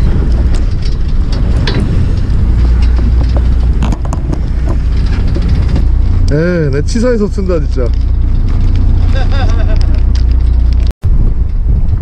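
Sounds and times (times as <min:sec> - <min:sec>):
boat engine idling: 0:00.0 - 0:10.9
wind buffeting microphone: 0:00.0 - 0:12.0.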